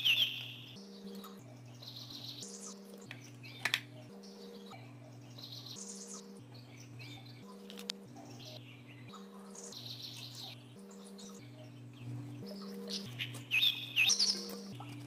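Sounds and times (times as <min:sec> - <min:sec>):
birds chirping: 0:00.0 - 0:15.0
soft background music: 0:00.0 - 0:15.0.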